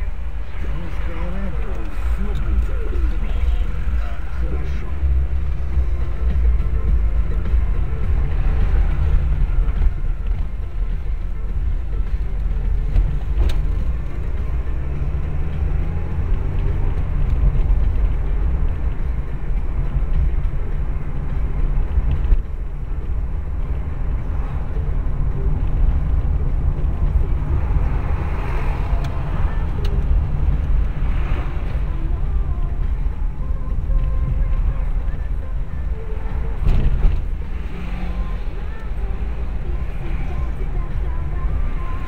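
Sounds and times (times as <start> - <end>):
engine and tyres rumbling: 0.0 - 42.0.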